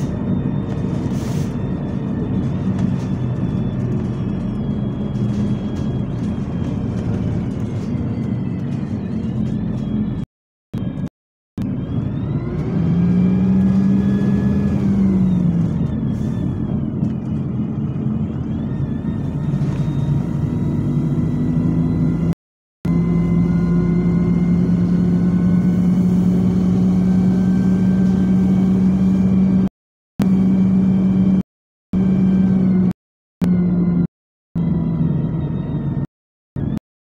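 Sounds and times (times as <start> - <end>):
bus diesel engine drone: 0.0 - 36.8.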